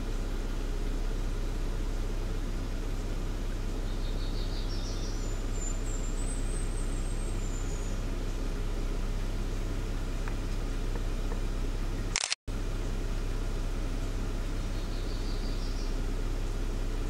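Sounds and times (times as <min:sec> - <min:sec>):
high songbird song: 0:00.0 - 0:11.0, 0:12.7 - 0:17.0
low hum and hiss: 0:00.0 - 0:17.0.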